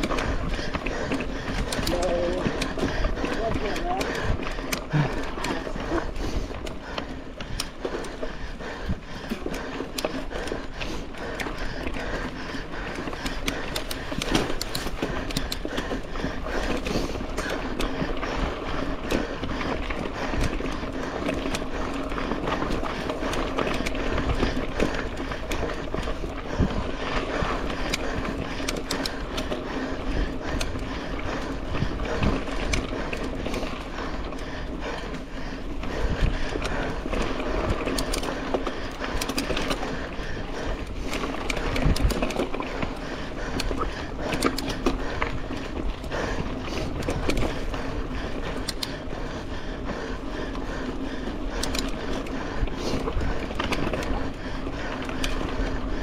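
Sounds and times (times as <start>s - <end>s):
bike chain and frame rattling: 0.0s - 56.0s
bike tyres rolling over dirt: 0.0s - 56.0s.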